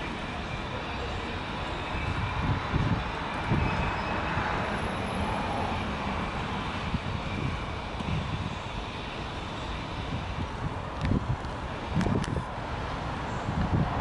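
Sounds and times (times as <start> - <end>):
distant traffic hum: 0.0 - 14.0
wind buffeting microphone: 0.0 - 14.0.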